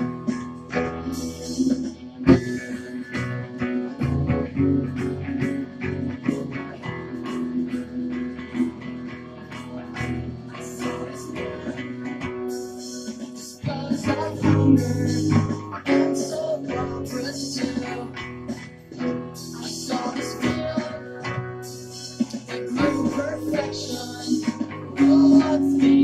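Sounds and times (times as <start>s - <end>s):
acoustic guitar picking and strumming: 0.0s - 26.0s.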